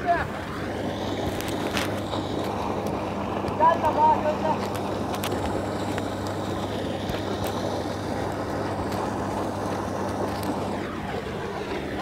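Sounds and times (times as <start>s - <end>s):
motorboat engine humming: 0.0s - 12.0s
water rushing: 0.0s - 12.0s
wind: 0.0s - 12.0s.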